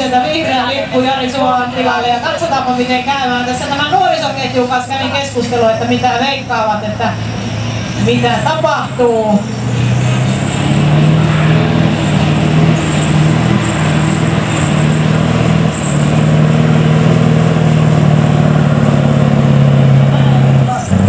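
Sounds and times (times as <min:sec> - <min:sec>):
diesel truck engine revving hard: 0:00.0 - 0:21.0.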